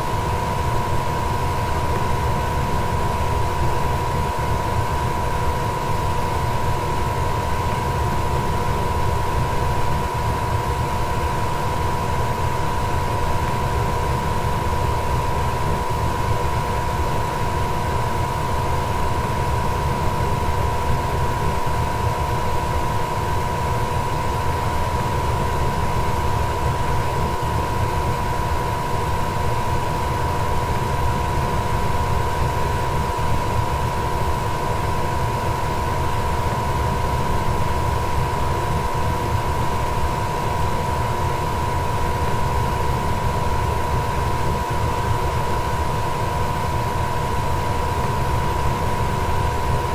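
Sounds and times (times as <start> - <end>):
steady hum: 0.0 - 49.9.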